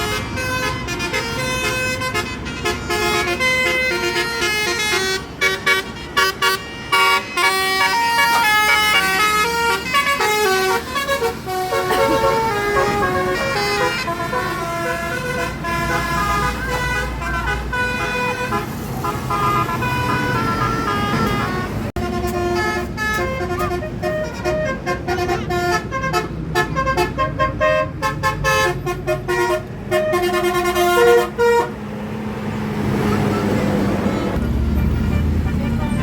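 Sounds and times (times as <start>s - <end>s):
musical bus air horn: 0.0s - 31.8s, 33.2s - 36.0s.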